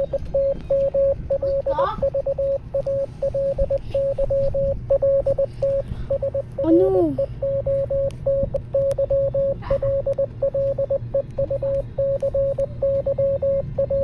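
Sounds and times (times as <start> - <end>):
morse code beeps: 0.0 - 14.0.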